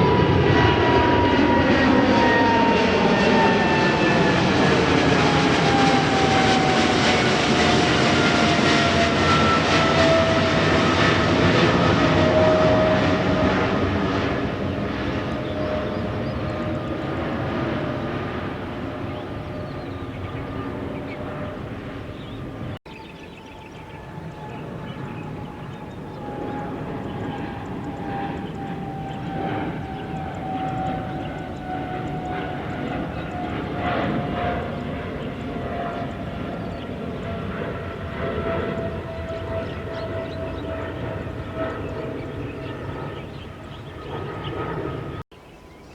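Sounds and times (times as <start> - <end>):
jet engines rumbling and whining: 0.0 - 45.9.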